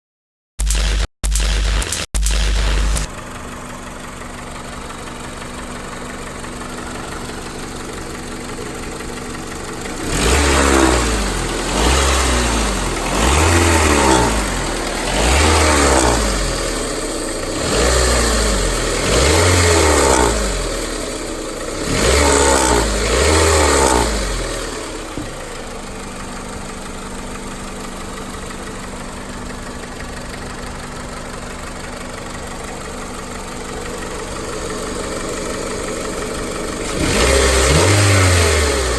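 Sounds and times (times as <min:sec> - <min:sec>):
car engine idling and revving: 0:00.6 - 0:38.9.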